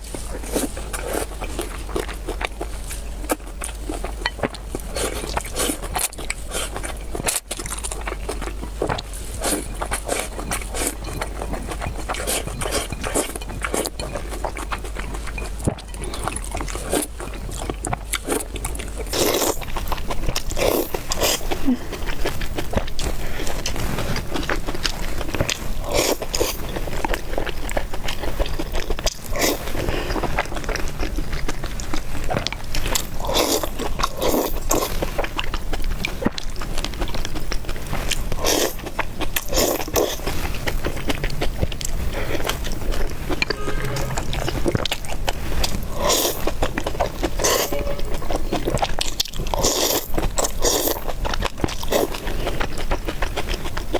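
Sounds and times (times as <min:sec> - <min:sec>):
person chewing and slurping noodles: 0:00.0 - 0:53.9.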